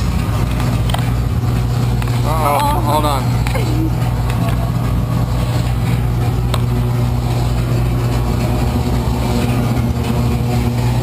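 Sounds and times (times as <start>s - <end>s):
low droning rumble: 0.0s - 11.0s.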